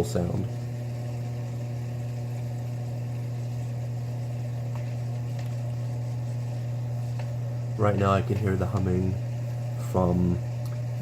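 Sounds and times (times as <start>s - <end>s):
dishwasher humming: 0.0s - 11.0s
water running: 0.0s - 11.0s.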